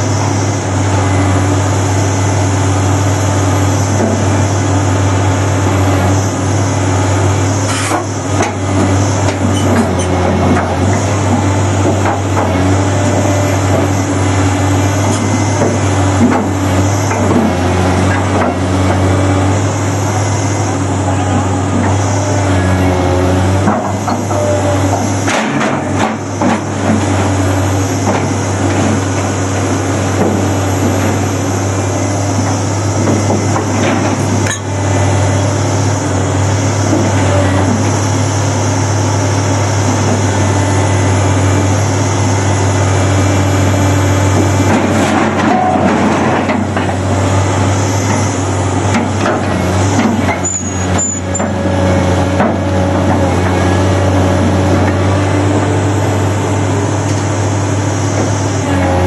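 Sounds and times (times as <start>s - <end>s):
diesel engine hum: 0.0s - 59.0s.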